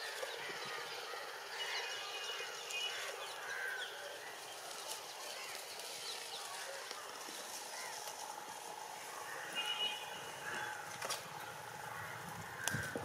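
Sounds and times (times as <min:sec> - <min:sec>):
birds chirping: 0:00.0 - 0:08.1, 0:08.7 - 0:13.0
steady background hiss: 0:00.0 - 0:13.0.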